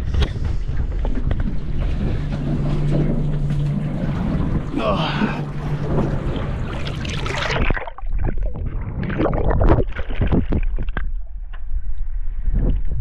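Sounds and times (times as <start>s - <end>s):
low rumble: 0.0s - 13.0s
underwater bubbling and sloshing: 0.0s - 13.0s
wind on microphone: 0.0s - 13.0s.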